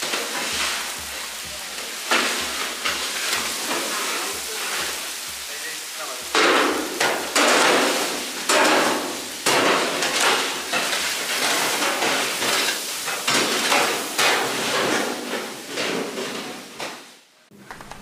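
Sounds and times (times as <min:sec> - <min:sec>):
onions sizzling in hot oil: 0:00.0 - 0:17.2.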